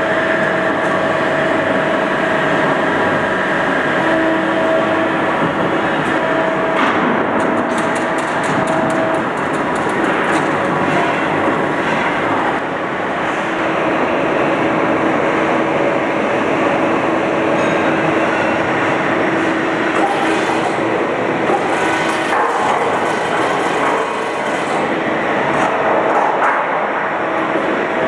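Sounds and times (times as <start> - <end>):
sheet-metal machinery running: 0.0 - 28.0
steady hum: 0.0 - 28.0.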